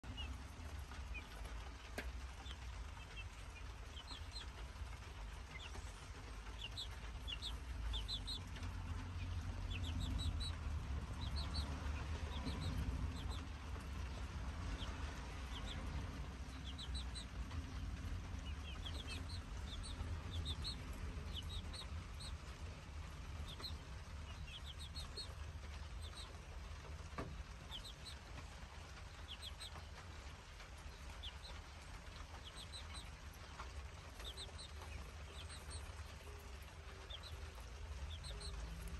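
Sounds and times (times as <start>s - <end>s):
chicks peeping: 0.0s - 38.9s
low steady rumble: 0.0s - 38.9s.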